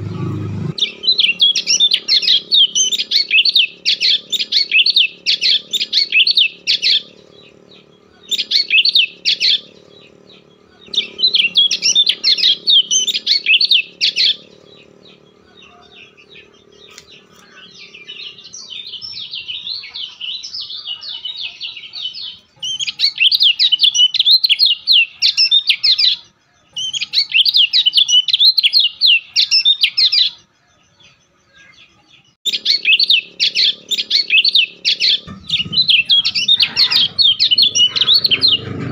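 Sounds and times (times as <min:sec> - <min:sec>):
bird trilling: 0:00.0 - 0:26.2, 0:26.8 - 0:30.4, 0:32.4 - 0:38.9.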